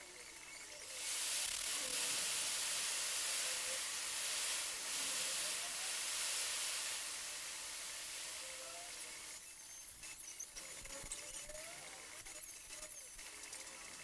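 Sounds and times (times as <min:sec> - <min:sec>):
arc welding hiss and crackle: 0:00.0 - 0:14.0.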